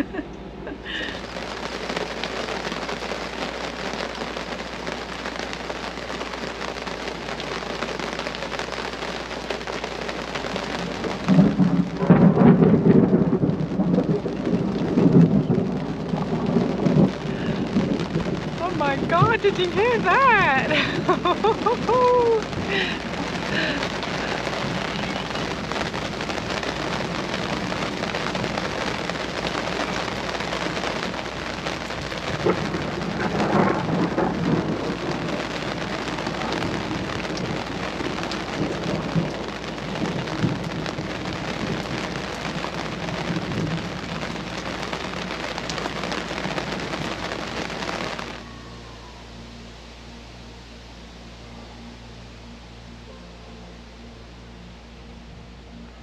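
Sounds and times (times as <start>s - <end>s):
heavy rain pouring: 0.0s - 56.0s
thunder rolling: 0.8s - 48.5s.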